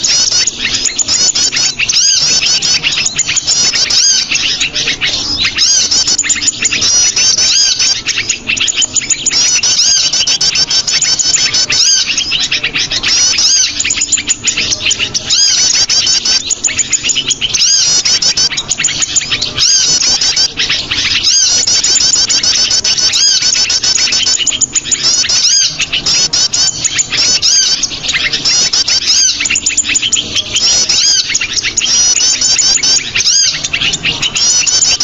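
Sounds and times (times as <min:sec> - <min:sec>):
small bird chirps and trills: 0:00.0 - 0:35.0.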